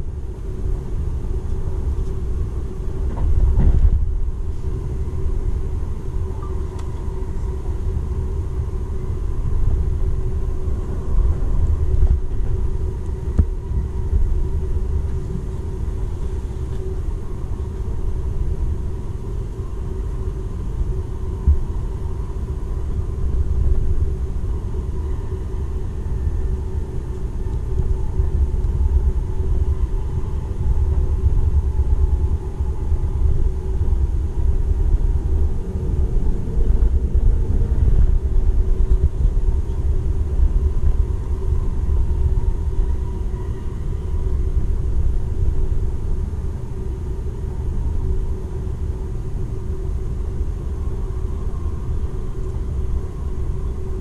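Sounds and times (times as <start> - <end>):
train wheels rumbling on rails: 0.0 - 48.6
faint steady hum: 0.0 - 54.0.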